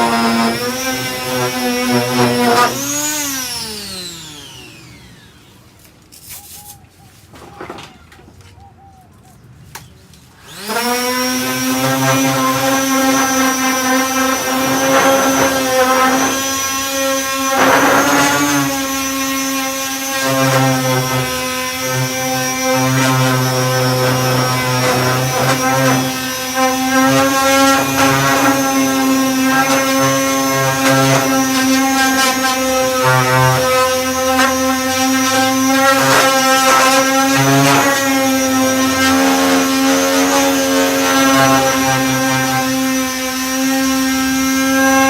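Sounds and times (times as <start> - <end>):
disc sander rasping over filler: 0.0 - 6.6, 10.4 - 45.0.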